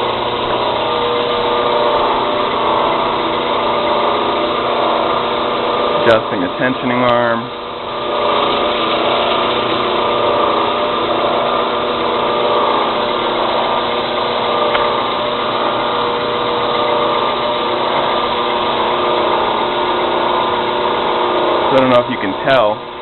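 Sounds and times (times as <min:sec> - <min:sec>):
belt grinder running: 0:00.0 - 0:23.0.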